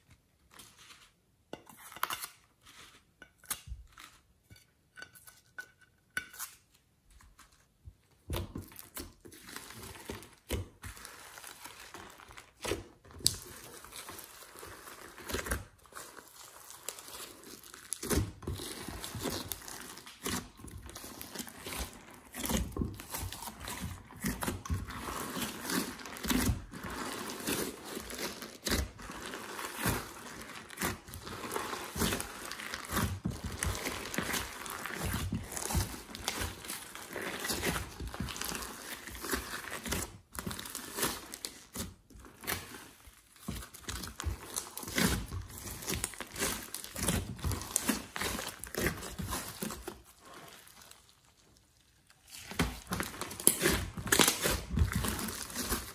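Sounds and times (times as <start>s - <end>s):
slime squishing and crackling: 7.4s - 55.9s.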